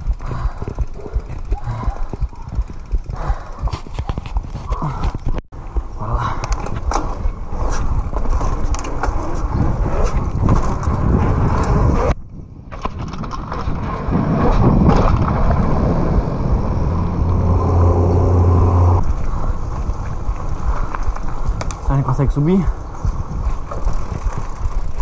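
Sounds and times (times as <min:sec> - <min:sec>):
low hum: 0:00.0 - 0:11.9, 0:13.3 - 0:21.4
bike rattling and clicking: 0:00.0 - 0:25.0
bike tyres rumbling on pavement: 0:00.0 - 0:25.0.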